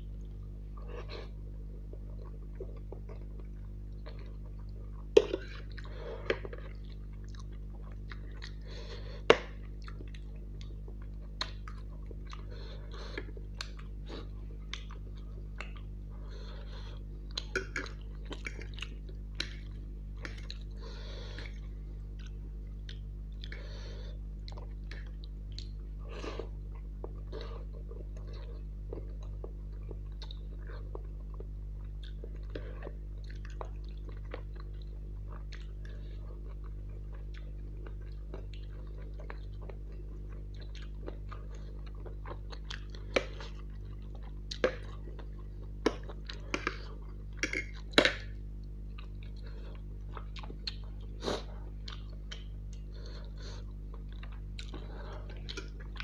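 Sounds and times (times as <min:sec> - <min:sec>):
low electrical hum: 0:00.0 - 0:56.0
wet chewing and mouth smacks: 0:01.8 - 0:16.0, 0:16.8 - 0:23.8, 0:24.4 - 0:25.9, 0:26.5 - 0:56.0.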